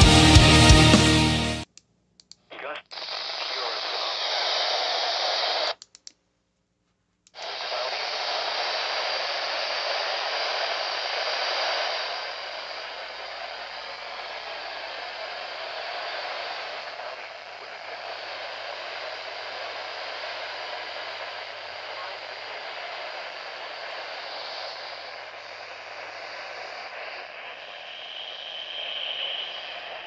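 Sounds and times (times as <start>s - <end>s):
radio static hiss: 2.5s - 5.8s, 7.3s - 30.0s.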